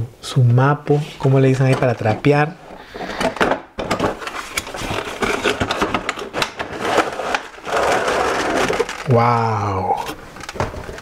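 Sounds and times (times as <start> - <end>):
plastic tray crinkling and scraping: 1.0 - 11.0.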